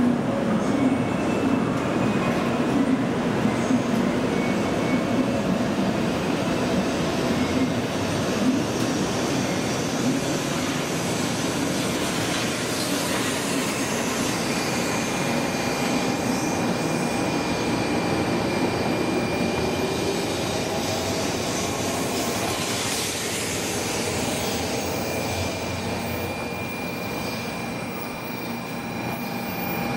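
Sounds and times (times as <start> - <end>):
train accelerating with whine: 0.0 - 29.9.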